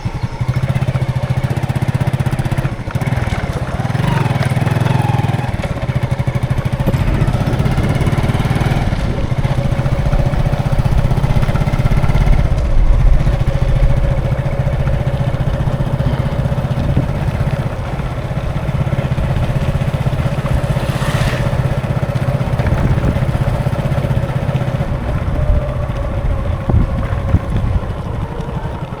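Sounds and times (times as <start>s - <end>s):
engine hum: 0.0s - 29.0s.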